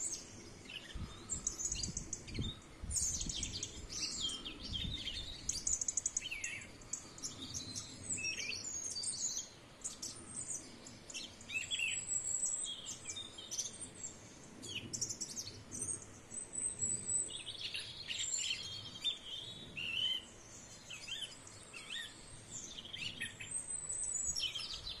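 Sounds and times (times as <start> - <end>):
songbirds singing and calling: 0.0 - 25.0.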